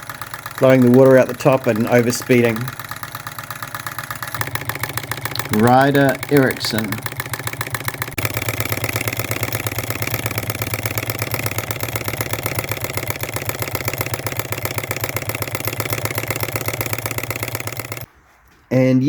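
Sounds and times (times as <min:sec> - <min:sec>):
hot-air engine clattering: 0:00.0 - 0:18.1.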